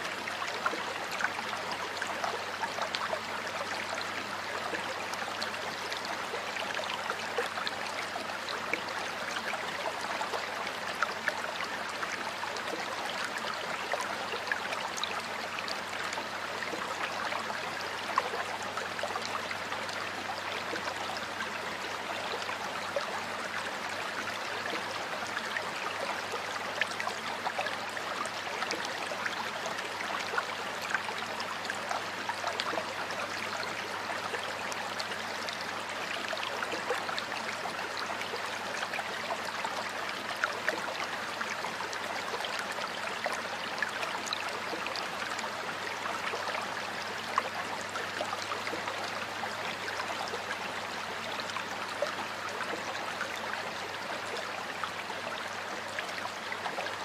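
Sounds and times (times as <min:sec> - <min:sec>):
stream water running over rocks: 0:00.0 - 0:57.0.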